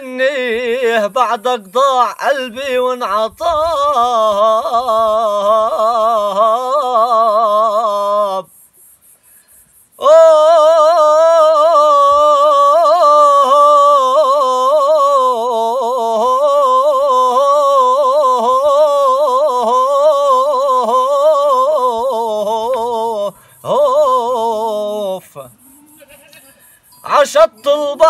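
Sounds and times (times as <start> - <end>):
man singing unaccompanied: 0.0 - 8.6, 10.0 - 25.6, 27.0 - 28.0.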